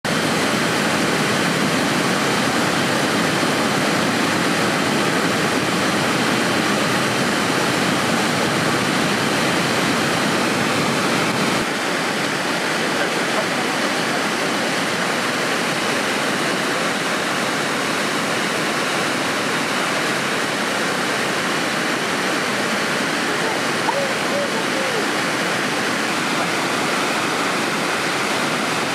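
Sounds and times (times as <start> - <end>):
waterfall roaring: 0.0 - 28.9.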